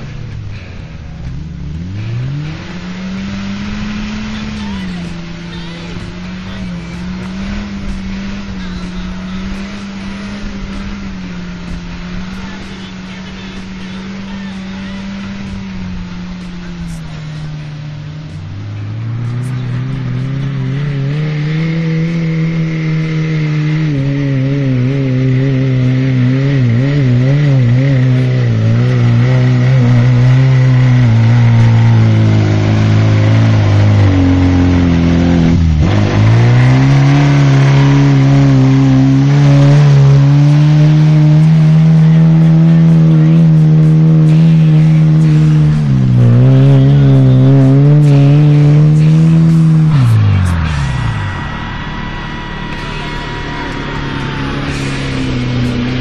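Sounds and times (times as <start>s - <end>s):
off-road vehicle engine revving: 0.0s - 56.0s
wheels spinning in mud: 0.0s - 56.0s.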